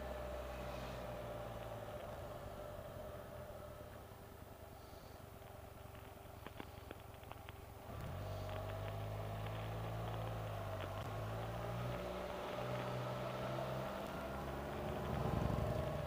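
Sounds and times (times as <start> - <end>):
three-wheeler engine running: 0.0 - 16.0.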